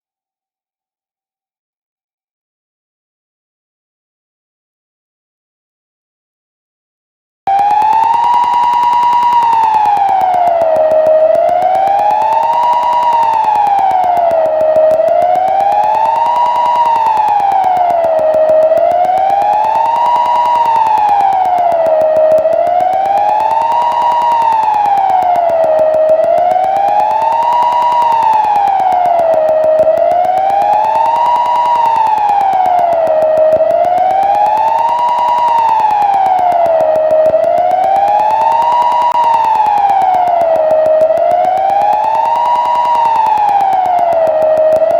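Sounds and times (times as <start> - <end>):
siren wailing: 7.5 - 44.9.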